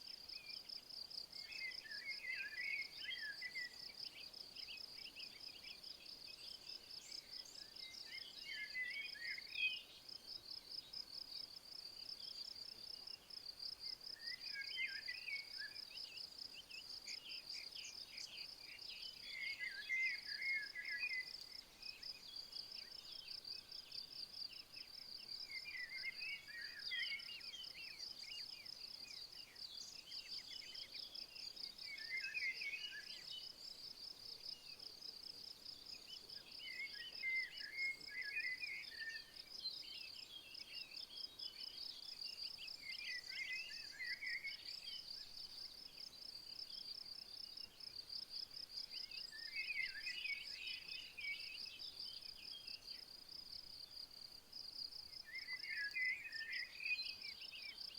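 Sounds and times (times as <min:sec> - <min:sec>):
songbird chirping: 0:00.0 - 0:57.9.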